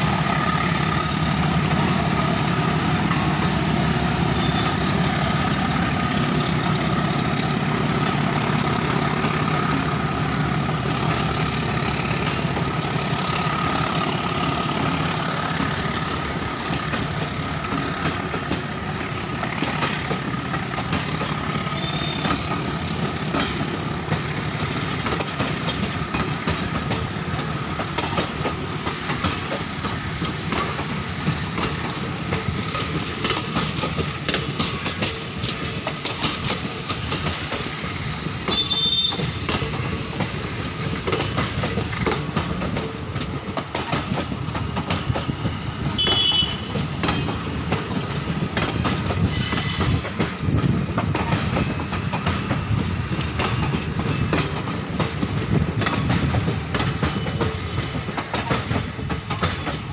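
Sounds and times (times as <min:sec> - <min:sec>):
diesel locomotive engine rumbling: 0:00.0 - 0:59.9
train wheels clicking over rail joints: 0:00.0 - 0:59.9.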